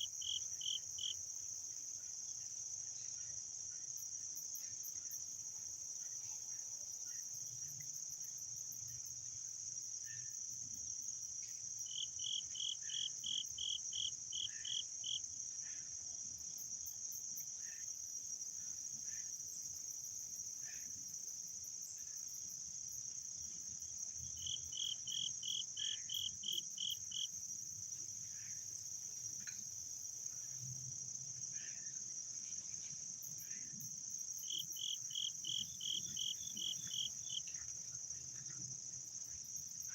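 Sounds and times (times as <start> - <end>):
insects chirping chorus: 0.0 - 39.9.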